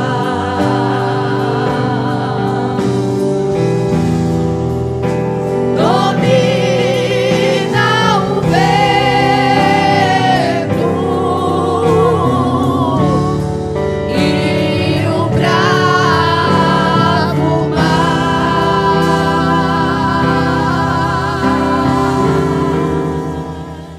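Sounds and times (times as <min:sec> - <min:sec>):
women's vocal group singing gospel: 0:00.0 - 0:04.2, 0:05.4 - 0:23.9
instrumental accompaniment: 0:00.0 - 0:23.9.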